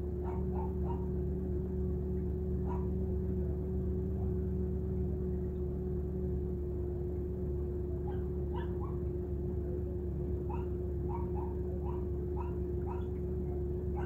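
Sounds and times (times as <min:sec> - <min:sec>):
car interior hum: 0:00.0 - 0:14.0.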